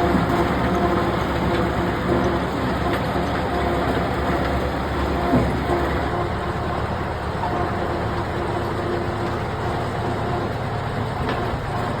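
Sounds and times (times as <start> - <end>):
heavy machinery engine running: 0.0 - 12.0.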